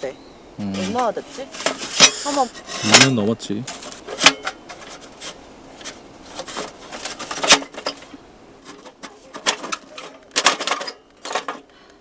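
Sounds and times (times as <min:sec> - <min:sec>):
camping gear clicking and knocking: 0:00.7 - 0:12.0.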